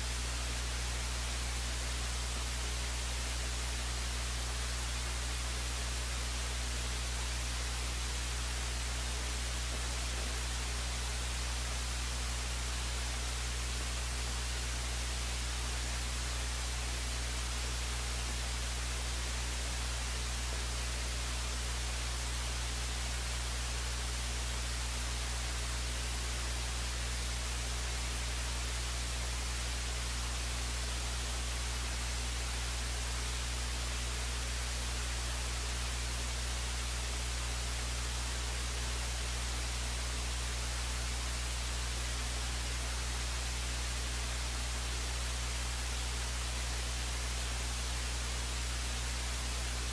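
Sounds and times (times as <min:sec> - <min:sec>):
constant hiss: 0:00.0 - 0:49.9
electrical hum: 0:00.0 - 0:49.9.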